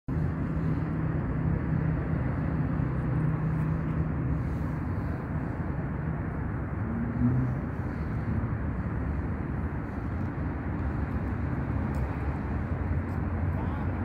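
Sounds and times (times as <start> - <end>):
distant engine drone: 0.1 - 14.0.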